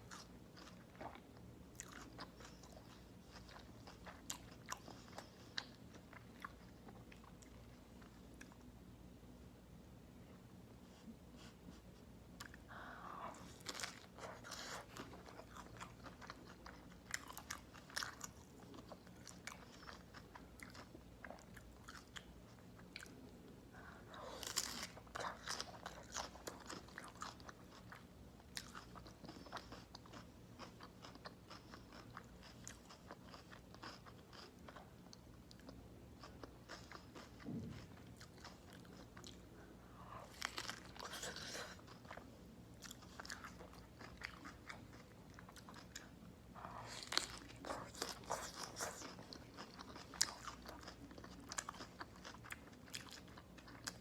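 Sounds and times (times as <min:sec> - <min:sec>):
crunchy chewing: 0:00.0 - 0:08.7, 0:13.3 - 0:23.2, 0:24.0 - 0:39.4, 0:40.0 - 0:54.0.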